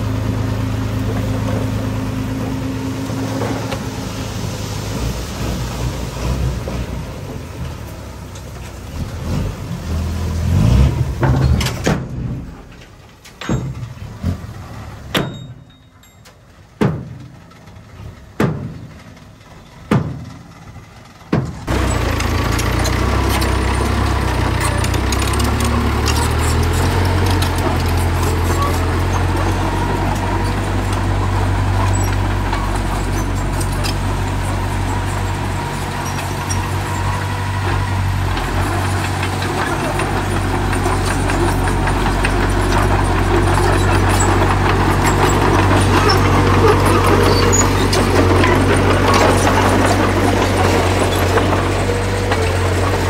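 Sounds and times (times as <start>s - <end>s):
earthmoving machine diesel engine: 0.0s - 53.0s.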